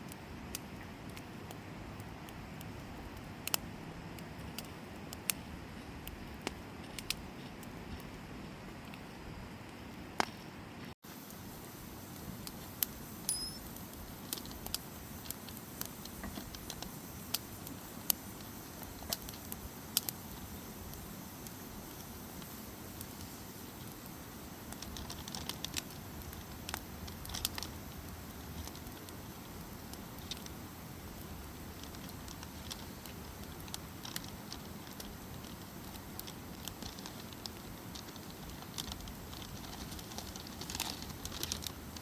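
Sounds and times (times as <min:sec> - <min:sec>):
campfire wood popping: 0:00.0 - 0:42.0
fire low hiss: 0:00.0 - 0:42.0.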